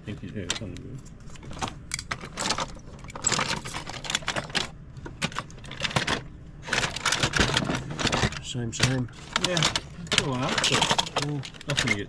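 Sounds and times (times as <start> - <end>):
toy cars clattering: 1.9 - 12.0.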